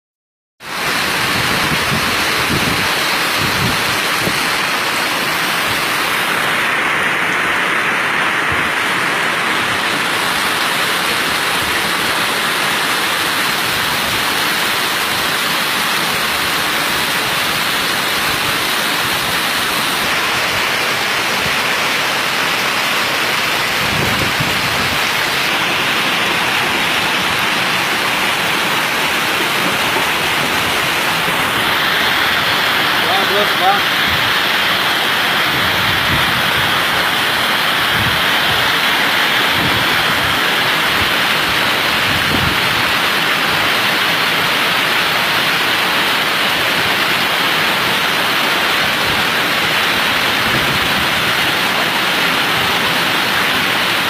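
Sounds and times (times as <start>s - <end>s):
heavy rain pouring: 0.6s - 54.0s.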